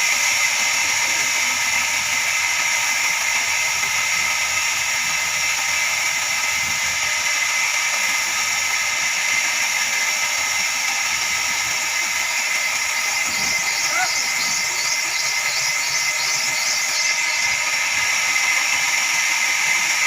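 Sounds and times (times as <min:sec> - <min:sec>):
band saw blade cutting log: 0:00.0 - 0:20.0.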